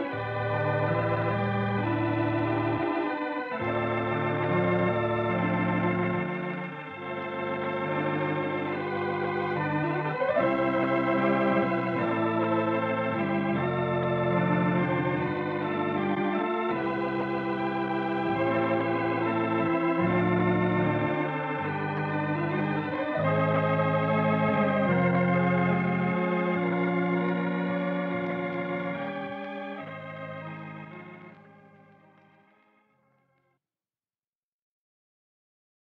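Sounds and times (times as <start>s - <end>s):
organ playing held chords: 0.0s - 32.9s.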